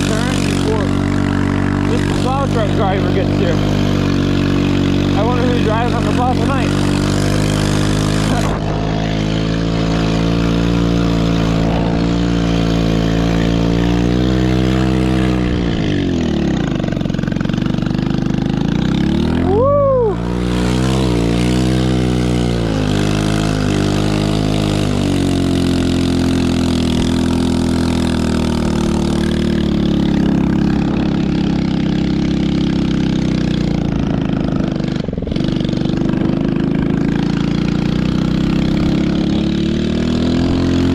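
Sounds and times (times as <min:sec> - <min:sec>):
small engine revving: 0:00.0 - 0:40.9.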